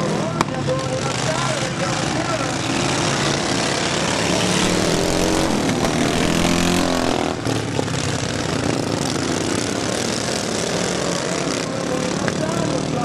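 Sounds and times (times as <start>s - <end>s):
racing lawn mower engines: 0.0s - 13.0s.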